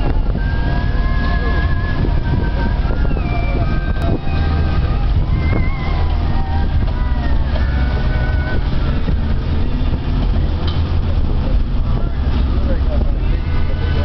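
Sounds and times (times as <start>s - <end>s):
motorboat engine running: 0.0s - 14.0s
wind and water rushing: 0.0s - 14.0s.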